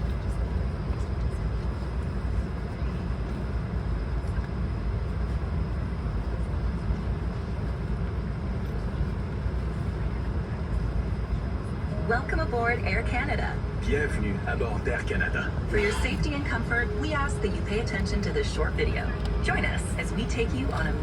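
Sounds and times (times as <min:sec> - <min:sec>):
airliner cabin rumble: 0:00.0 - 0:21.0
faint high whine: 0:00.1 - 0:21.0.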